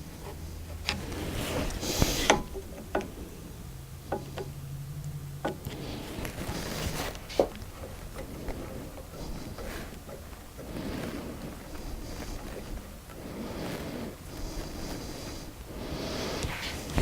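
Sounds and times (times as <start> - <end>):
low hum: 0.0 - 17.0
rustling: 0.0 - 17.0.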